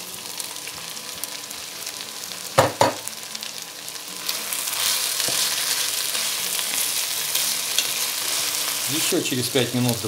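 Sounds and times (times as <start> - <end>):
vegetables and meat sizzling: 0.0 - 10.0.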